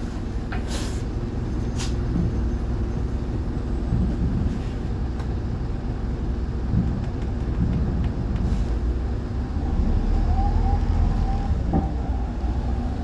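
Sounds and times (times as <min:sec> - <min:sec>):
bus engine low rumble: 0:00.0 - 0:13.0.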